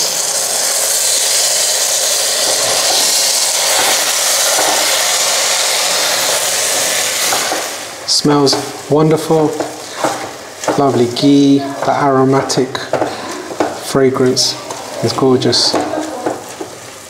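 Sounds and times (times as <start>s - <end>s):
food sizzling in a pan: 0.0s - 17.0s
spatula stirring in pan: 0.8s - 17.0s.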